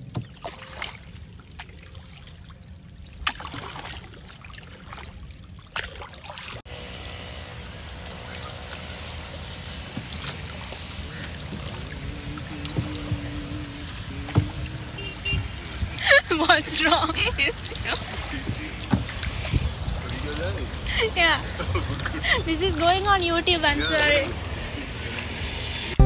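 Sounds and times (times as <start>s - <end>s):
paddles splashing in water: 0.0s - 26.0s
water washing: 0.0s - 26.0s.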